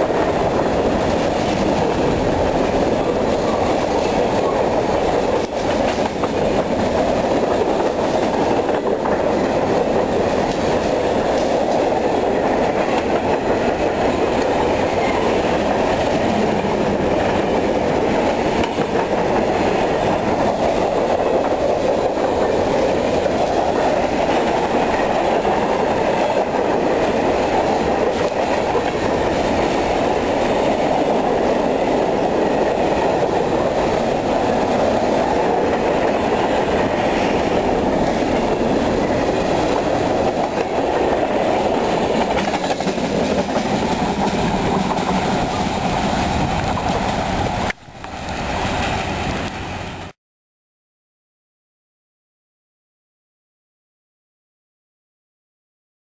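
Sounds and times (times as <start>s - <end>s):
freight train rolling past: 0.0s - 50.2s.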